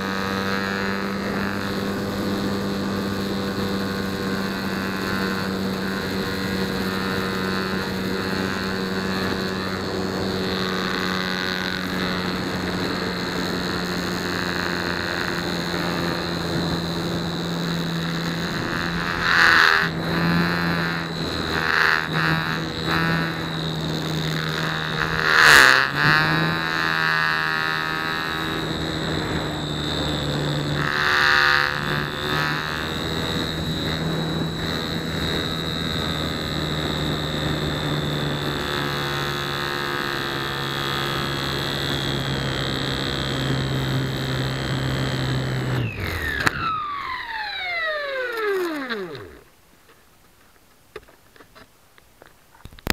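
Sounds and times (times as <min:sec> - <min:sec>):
electric motor and propeller whine: 0:00.0 - 0:49.6.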